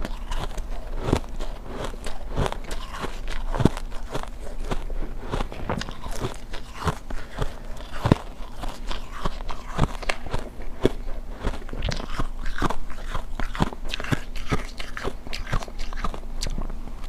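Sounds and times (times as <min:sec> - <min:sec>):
ice crunching while chewed: 0:00.0 - 0:16.8.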